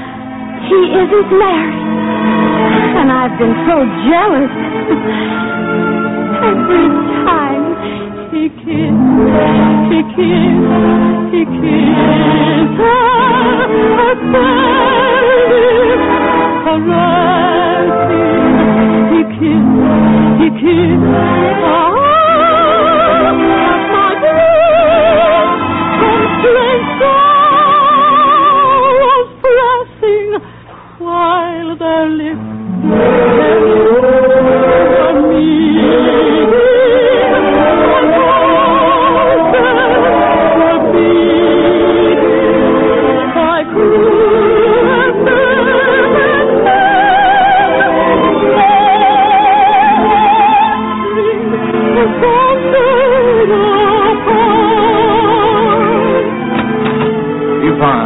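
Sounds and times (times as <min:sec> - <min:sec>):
orchestral accompaniment: 0:00.0 - 0:29.8, 0:31.4 - 0:58.0
soprano singing with vibrato: 0:00.6 - 0:01.7, 0:06.3 - 0:30.4, 0:31.0 - 0:56.4.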